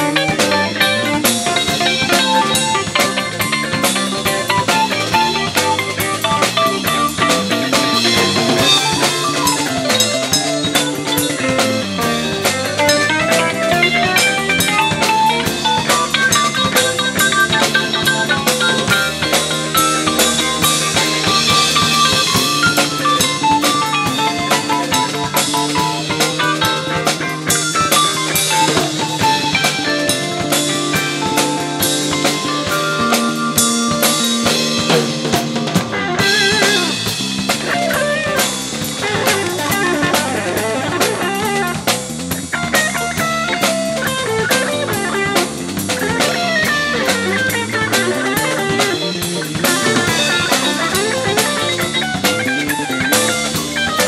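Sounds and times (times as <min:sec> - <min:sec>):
electric guitar: 0:00.0 - 0:54.0
jazz-funk band playing live: 0:00.0 - 0:54.0.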